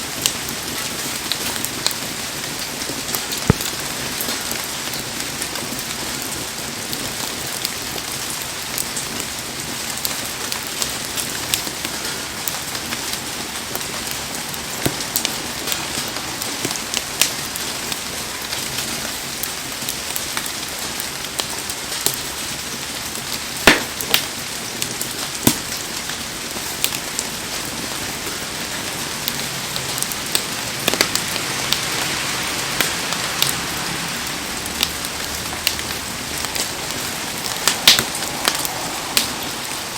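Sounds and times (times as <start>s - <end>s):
heavy rain falling: 0.0s - 39.9s
sharp crackles and pops: 0.1s - 33.7s, 34.3s - 39.9s.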